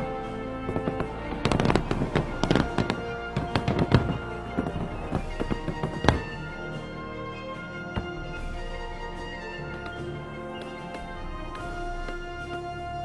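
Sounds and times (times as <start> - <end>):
fireworks bursting: 0.0 - 7.0, 7.8 - 13.0
music: 0.0 - 13.0.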